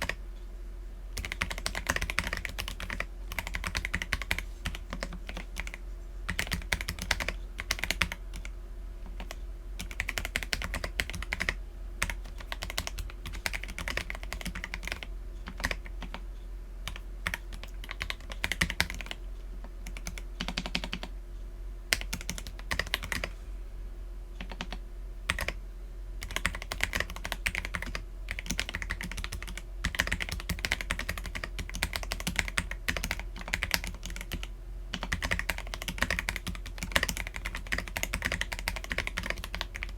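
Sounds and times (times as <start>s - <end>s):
mechanical keyboard typing: 0.0s - 0.2s, 1.2s - 8.5s, 9.1s - 16.2s, 16.9s - 19.2s, 19.8s - 21.1s, 21.9s - 23.3s, 24.4s - 25.6s, 26.2s - 39.9s.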